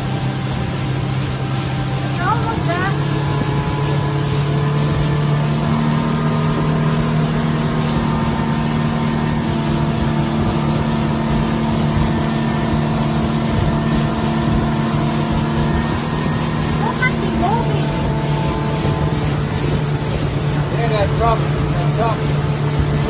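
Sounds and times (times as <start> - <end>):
boat engine running: 0.0 - 23.0
water rushing against hull: 0.0 - 23.0
wind against hull: 0.0 - 23.0.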